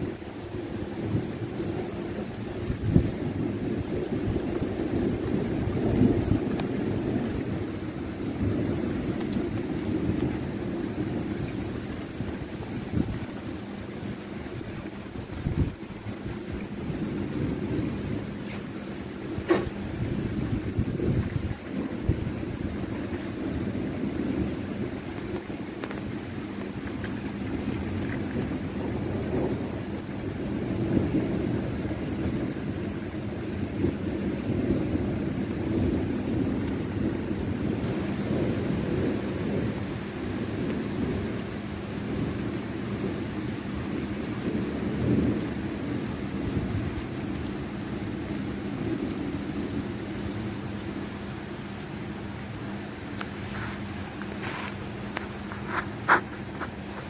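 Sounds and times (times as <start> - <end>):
low thunder rumbling: 0.0 - 57.0
rain on wet pavement: 0.0 - 57.0.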